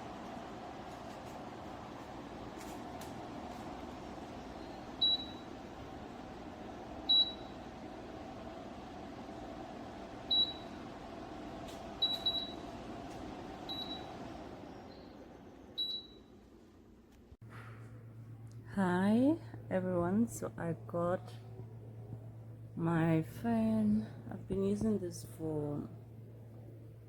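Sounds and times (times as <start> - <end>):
fan running with airy hum: 0.0 - 27.0.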